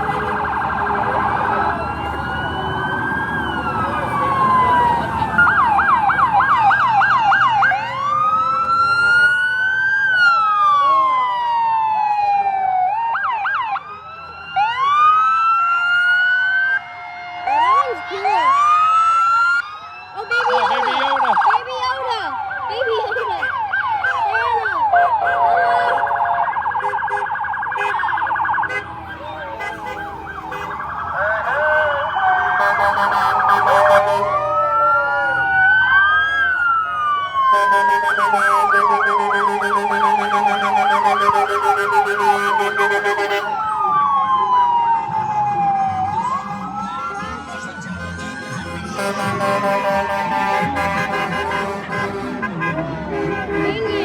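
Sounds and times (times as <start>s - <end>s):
emergency vehicle siren: 0.0s - 54.0s.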